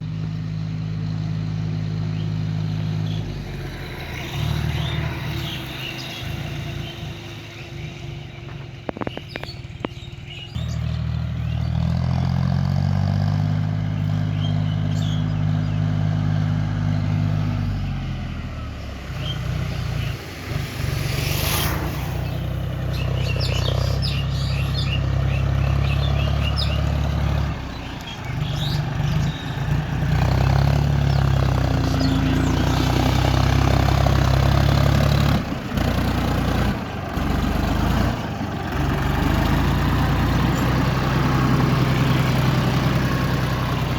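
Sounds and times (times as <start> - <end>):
birds chirping: 0.0 - 12.3, 13.8 - 43.9
tractor diesel engine running: 0.0 - 43.9.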